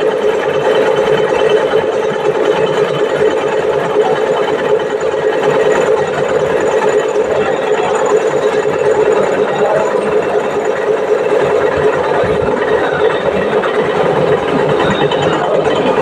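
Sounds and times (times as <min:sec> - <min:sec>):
milling machine humming: 0:00.0 - 0:16.0.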